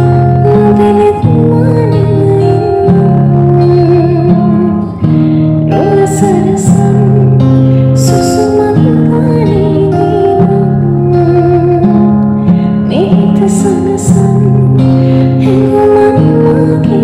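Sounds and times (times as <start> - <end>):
slow song with singing and guitar: 0.0 - 17.0.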